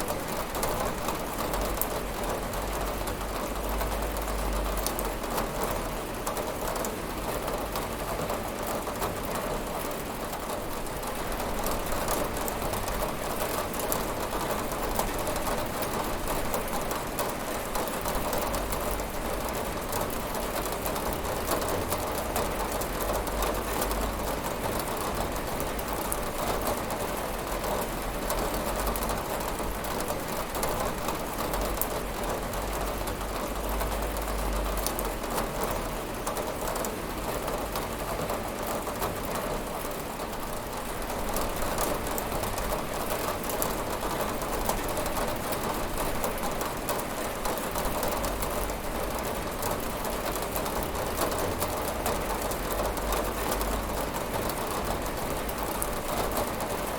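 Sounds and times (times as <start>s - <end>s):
rain pattering on a window: 0.0s - 56.9s.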